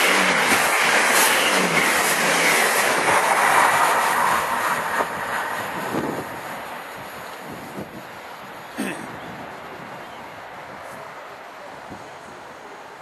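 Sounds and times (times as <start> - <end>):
train running past: 0.0 - 13.0.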